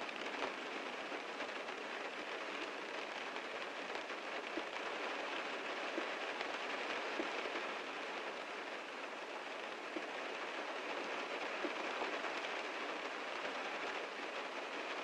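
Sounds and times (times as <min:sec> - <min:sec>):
heavy rain on a car: 0:00.0 - 0:15.0.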